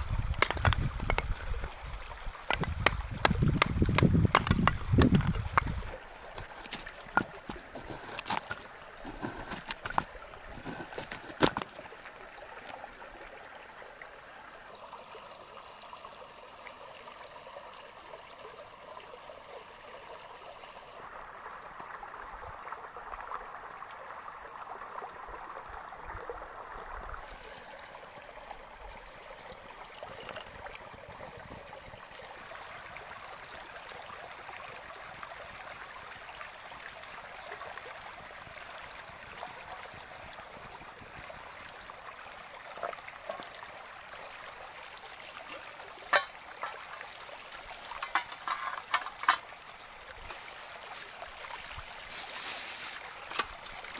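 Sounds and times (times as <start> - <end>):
stream babbling over stones: 0.0 - 53.9.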